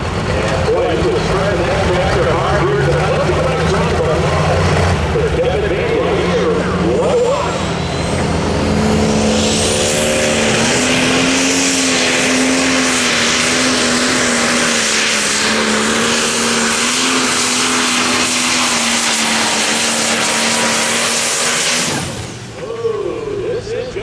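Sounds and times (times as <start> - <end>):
tractor engine drone: 0.0 - 24.0.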